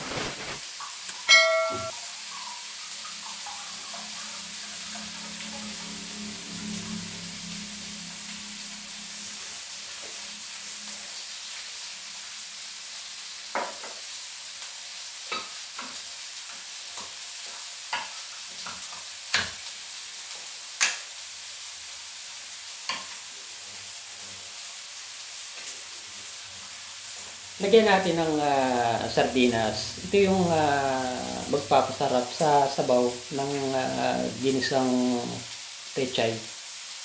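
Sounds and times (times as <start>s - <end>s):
tofu and onion frying in oil: 0.0s - 37.0s.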